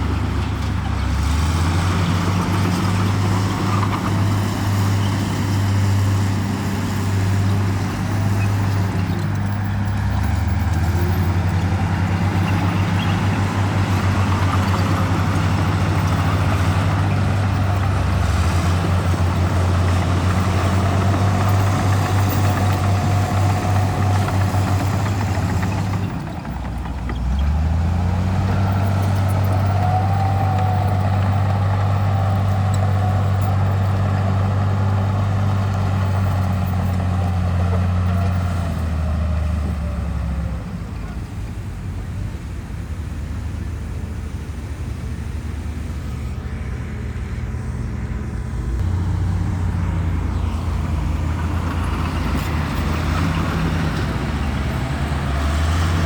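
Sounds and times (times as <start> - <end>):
bulldozer diesel engine drone: 0.0 - 56.0.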